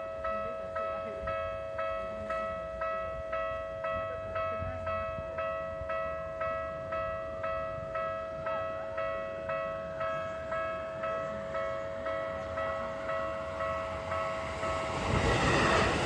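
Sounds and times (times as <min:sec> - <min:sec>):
level-crossing electronic bell: 0:00.0 - 0:16.0
steady continuous tone: 0:00.0 - 0:16.0.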